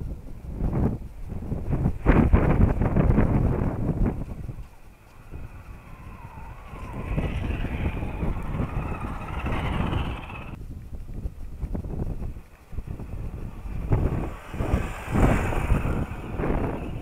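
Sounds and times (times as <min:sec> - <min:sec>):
wind rumble on microphone: 0:00.0 - 0:17.0
electric motor and gear whine: 0:01.4 - 0:10.6, 0:11.5 - 0:17.0.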